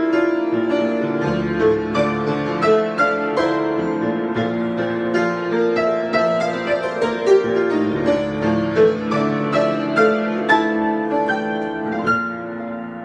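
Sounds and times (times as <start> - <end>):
solo piano: 0.0 - 13.0.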